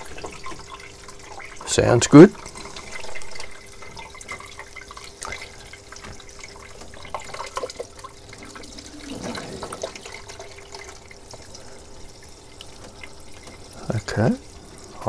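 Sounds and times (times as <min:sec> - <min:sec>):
faint pump hum: 0:00.0 - 0:15.0
water trickling and dripping: 0:00.0 - 0:15.0.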